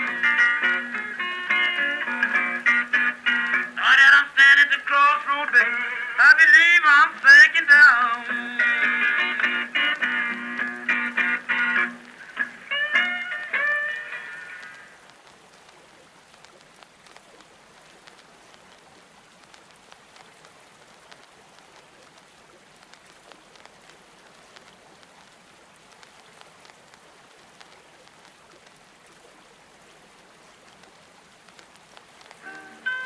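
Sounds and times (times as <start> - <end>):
raindrop ticks: 0.0 - 29.0, 30.4 - 33.0
rain hiss: 0.0 - 33.0.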